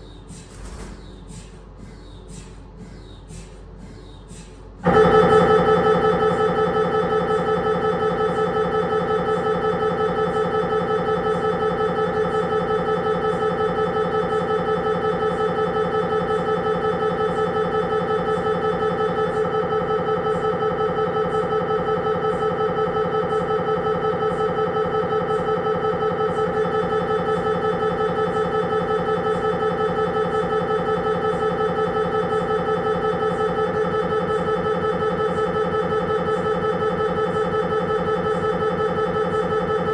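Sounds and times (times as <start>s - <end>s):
mri scanner buzzing: 4.8s - 39.9s.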